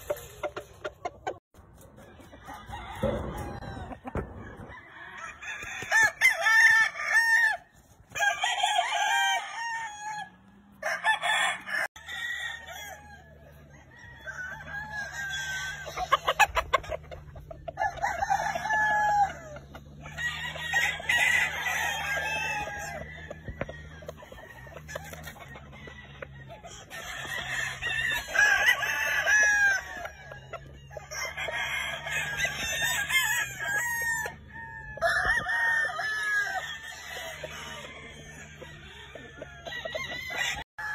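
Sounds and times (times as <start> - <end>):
chickens clucking: 0.0 - 6.0, 12.8 - 40.9
roosters crowing: 0.0 - 40.9.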